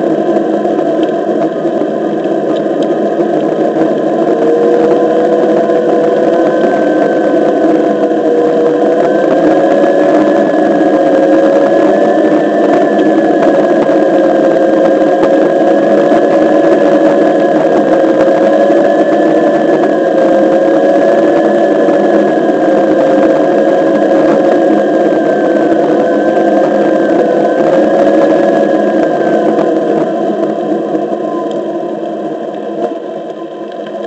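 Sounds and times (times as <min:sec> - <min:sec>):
hub motor whining: 0:00.0 - 0:34.0.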